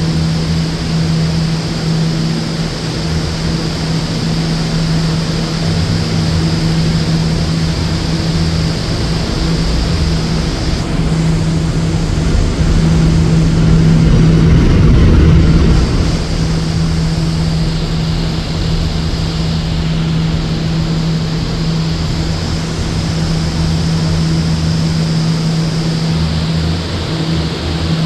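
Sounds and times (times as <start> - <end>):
air rushing from blowers: 0.0 - 28.0
constant low hum: 0.0 - 28.0
high hiss: 0.0 - 28.0.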